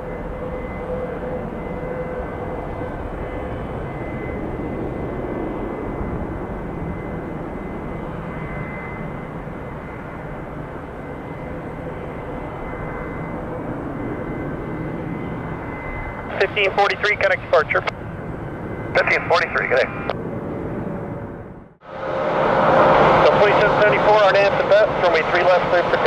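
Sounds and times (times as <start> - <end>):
jet engines at takeoff: 0.0 - 26.0.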